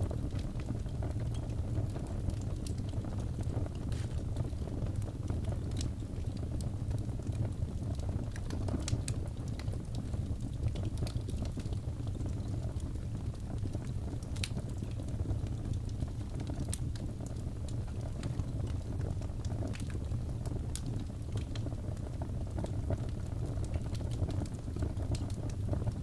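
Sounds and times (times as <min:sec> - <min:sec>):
crackling fire: 0:00.0 - 0:26.0.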